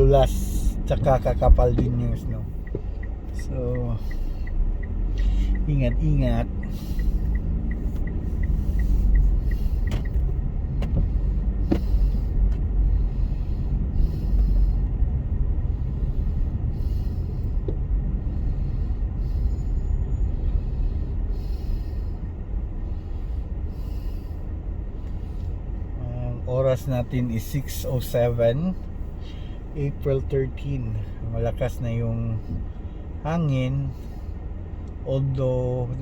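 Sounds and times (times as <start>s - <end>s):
car road rumble: 0.0s - 36.0s.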